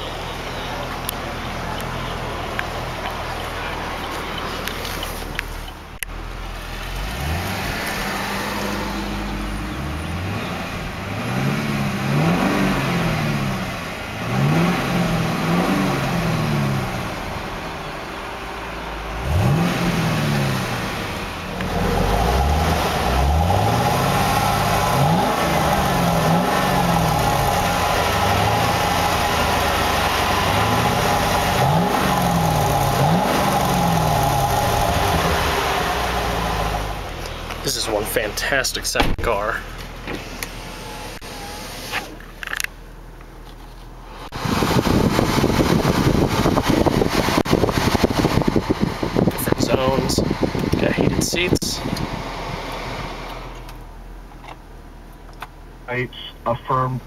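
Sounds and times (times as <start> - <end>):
car engine revving: 0.0 - 42.7, 44.1 - 54.0.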